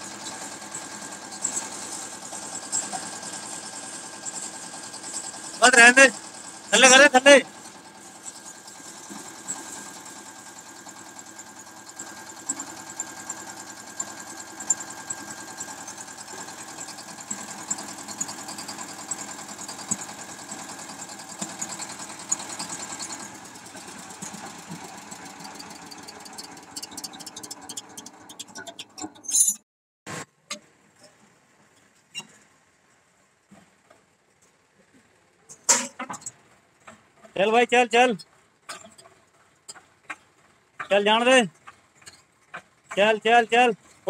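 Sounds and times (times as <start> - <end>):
diesel engine running: 0.0 - 29.3, 35.0 - 44.0.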